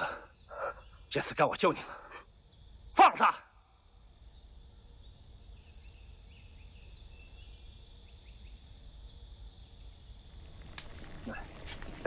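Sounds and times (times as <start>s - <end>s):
soft steady hiss: 0.1s - 12.0s.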